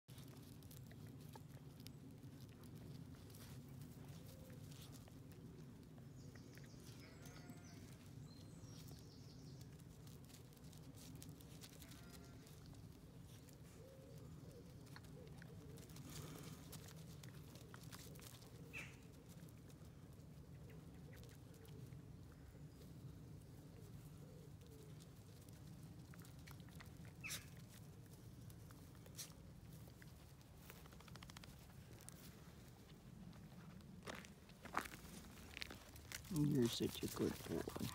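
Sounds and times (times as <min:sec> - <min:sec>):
paws pattering on gravel: 0:00.1 - 0:37.9.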